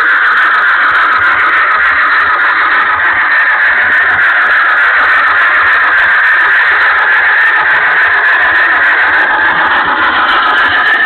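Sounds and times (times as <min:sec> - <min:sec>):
model train wheels and motor: 0:00.0 - 0:11.0.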